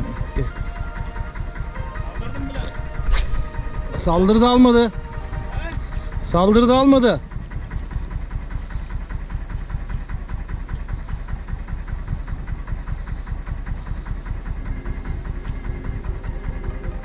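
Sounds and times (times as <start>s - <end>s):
higher steady hum: 0.0s - 17.0s
small boat motor running: 0.0s - 17.0s.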